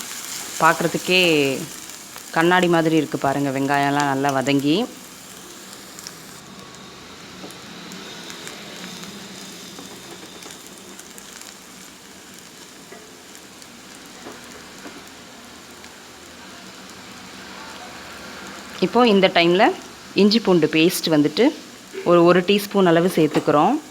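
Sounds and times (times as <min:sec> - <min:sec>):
onions sizzling in a pan: 0:00.0 - 0:23.9.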